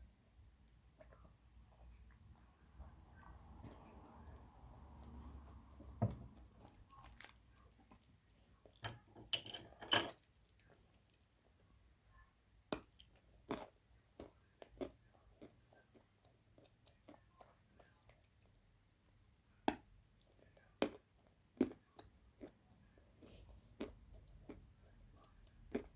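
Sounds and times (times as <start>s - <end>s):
crunchy chewing of dry clay: 0.7s - 8.8s, 10.2s - 18.7s, 19.6s - 25.9s.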